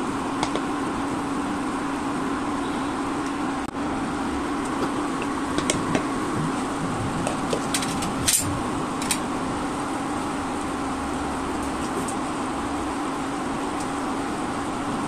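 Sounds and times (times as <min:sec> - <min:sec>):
cooling fan hum: 0:00.0 - 0:15.0.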